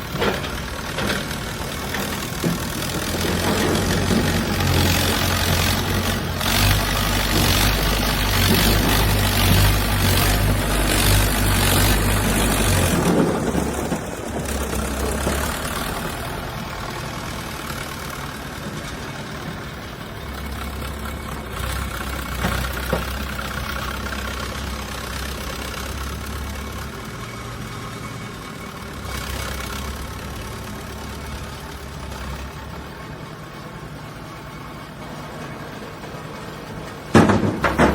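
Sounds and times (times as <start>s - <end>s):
construction machinery diesel engine: 0.0s - 37.9s.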